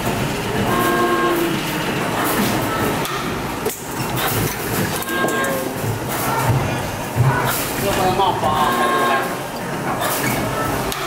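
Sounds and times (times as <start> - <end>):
machine whine: 0.0 - 9.4
factory machinery clattering: 0.0 - 11.0.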